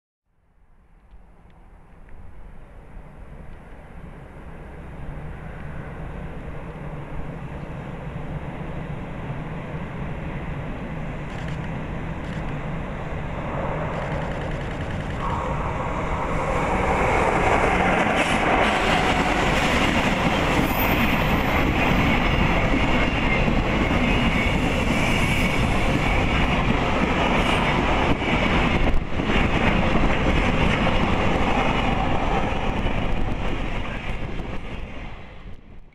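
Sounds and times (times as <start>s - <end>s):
electric locomotive passing: 1.3s - 35.9s.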